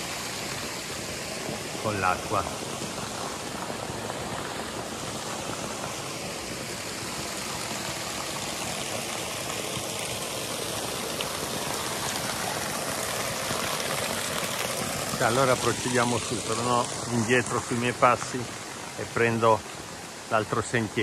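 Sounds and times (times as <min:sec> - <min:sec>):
mountain torrent rushing: 0:00.0 - 0:21.0.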